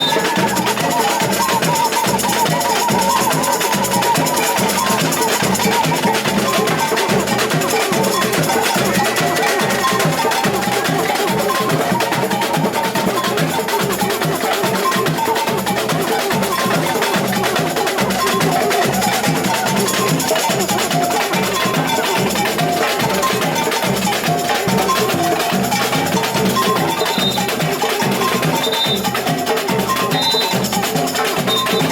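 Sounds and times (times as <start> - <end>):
samba drums and shakers: 0.0 - 31.9.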